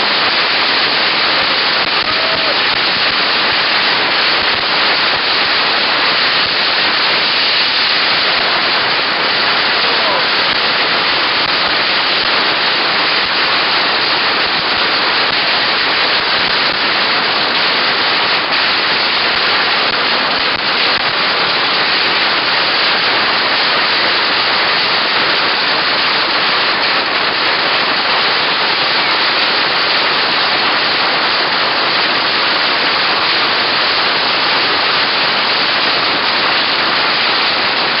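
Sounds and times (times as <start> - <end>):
firecrackers crackling: 0.0 - 38.0.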